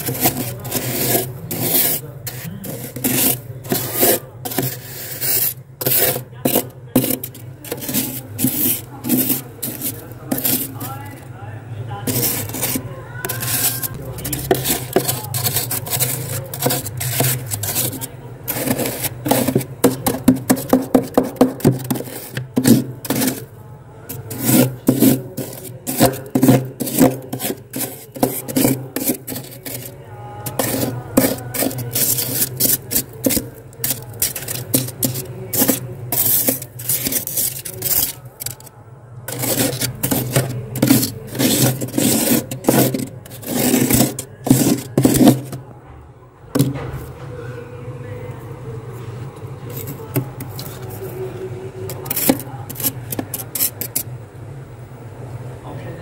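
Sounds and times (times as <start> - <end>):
knife scraping frost: 0.0 - 11.2, 12.0 - 23.5, 24.1 - 38.7, 39.3 - 45.6, 51.9 - 54.1.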